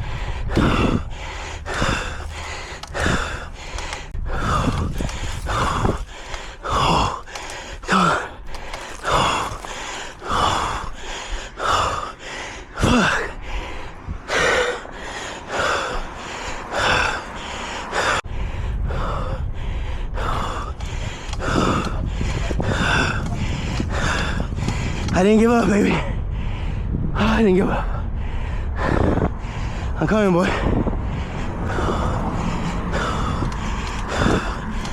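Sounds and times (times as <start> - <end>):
low rumble: 0.0 - 34.9
man gasping heavily: 0.0 - 34.9.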